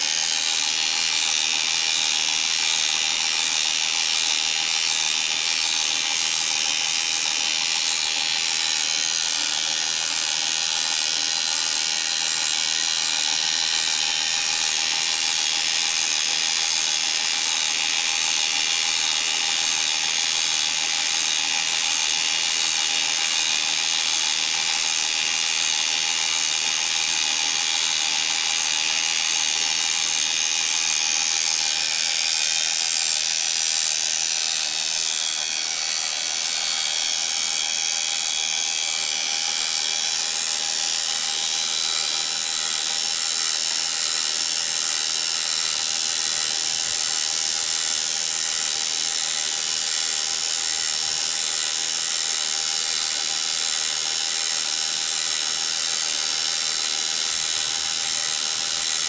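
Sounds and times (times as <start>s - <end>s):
electric winch motor whirring: 0.0s - 59.0s.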